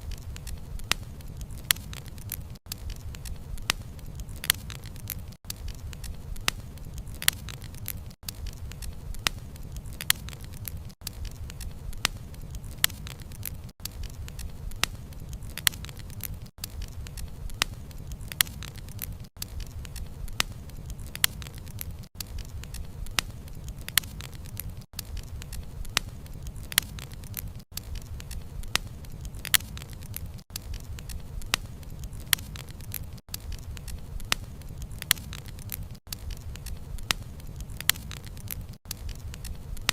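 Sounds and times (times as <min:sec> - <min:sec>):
logs crackling and popping: 0:00.0 - 0:39.9
wood fire rumbling: 0:00.0 - 0:39.9.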